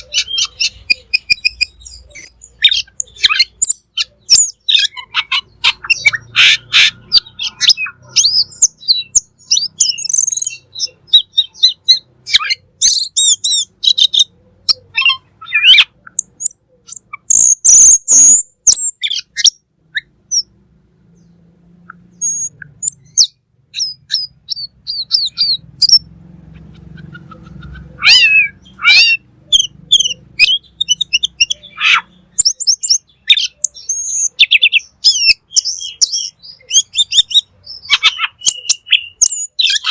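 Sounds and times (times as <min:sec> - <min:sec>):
bird singing chirps and whistles: 0:00.0 - 0:20.5, 0:21.9 - 0:26.1, 0:28.0 - 0:39.9
loud harsh bird call: 0:00.0 - 0:20.5, 0:21.9 - 0:39.9.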